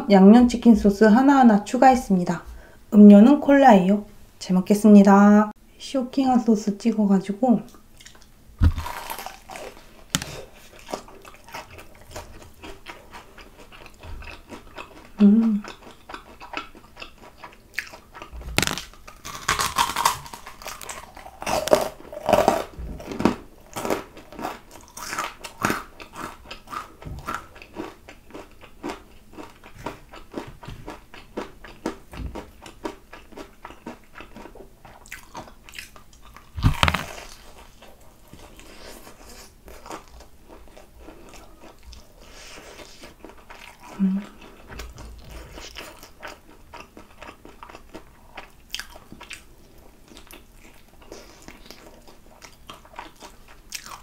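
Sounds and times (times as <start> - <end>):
chewing crispy fried chicken: 7.7 - 54.0.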